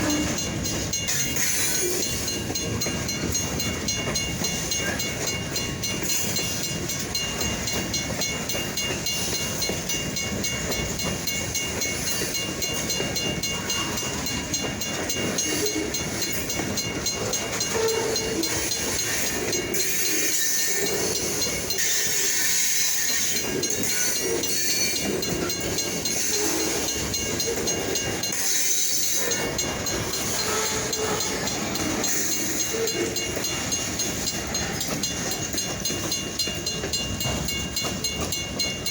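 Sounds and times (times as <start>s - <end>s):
crossing bell ringing: 0.0s - 38.9s
train wheels on rails: 0.0s - 38.9s.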